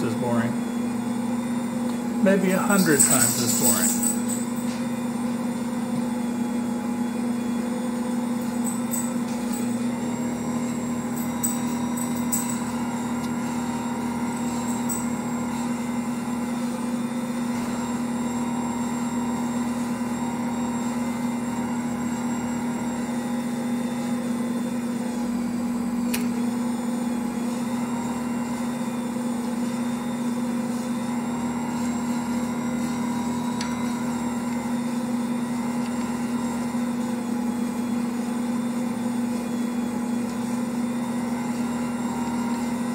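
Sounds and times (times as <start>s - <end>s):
stand mixer motor humming: 0.0s - 42.9s.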